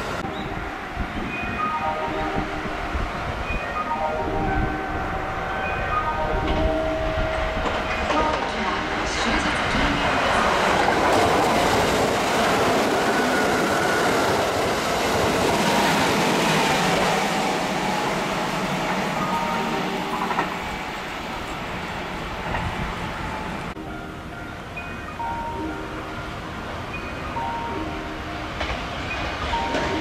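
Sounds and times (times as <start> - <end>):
electric train passing at speed: 0.0 - 30.0.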